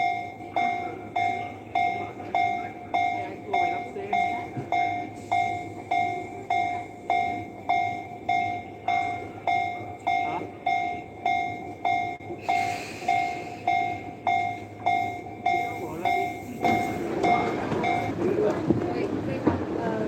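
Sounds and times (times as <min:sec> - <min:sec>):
railroad crossing bell ringing: 0:00.0 - 0:18.4.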